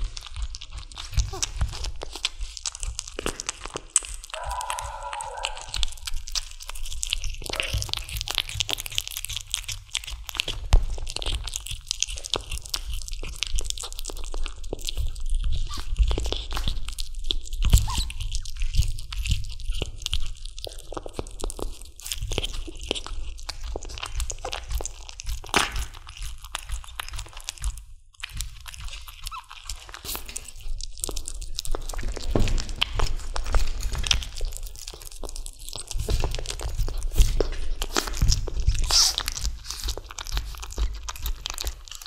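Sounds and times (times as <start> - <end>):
kitten chewing on bone: 0.0 - 42.0.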